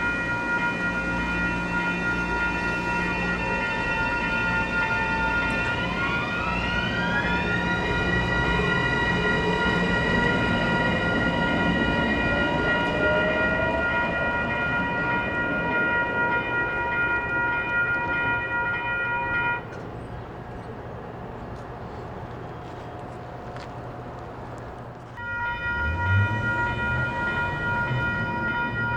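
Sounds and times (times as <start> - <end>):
locomotive air horn chord: 0.0 - 19.8, 25.2 - 28.9
train rumbling past: 0.0 - 28.9.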